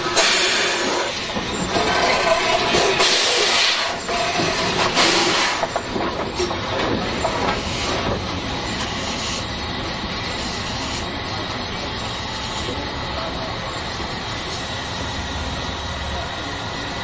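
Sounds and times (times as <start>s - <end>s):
rail noise: 0.0s - 17.0s
steam gushing: 0.0s - 17.0s.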